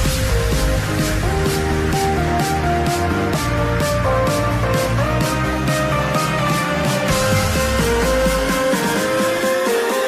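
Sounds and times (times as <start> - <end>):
music with heavy bass and drums: 0.0 - 10.0.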